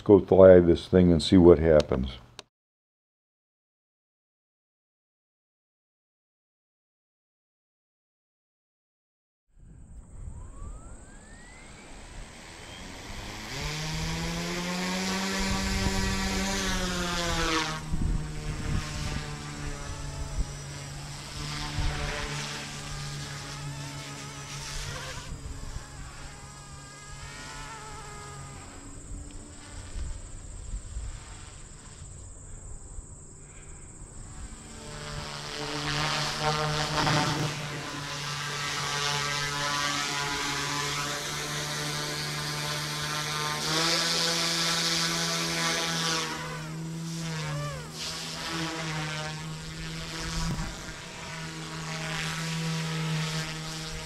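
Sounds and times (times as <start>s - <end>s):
rc helicopter motors whining: 9.8s - 54.0s.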